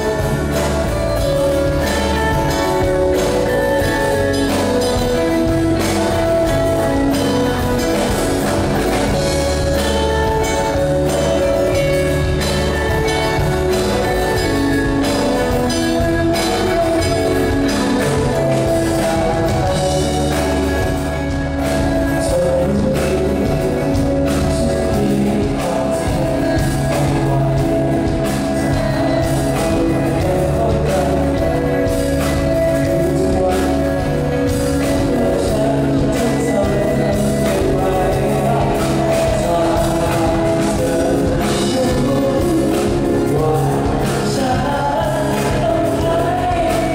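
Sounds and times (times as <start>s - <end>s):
acoustic guitar: 0.0s - 46.9s
drums: 0.0s - 46.9s
electric guitar: 0.0s - 46.9s
lead singer singing: 0.0s - 46.9s.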